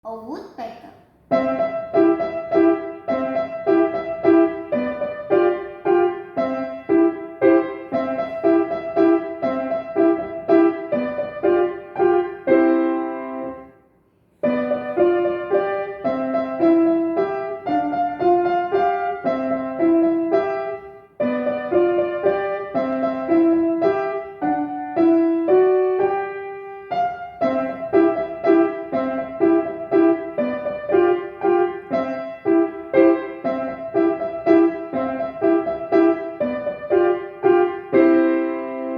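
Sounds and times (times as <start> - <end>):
piano melody: 1.2 - 38.9.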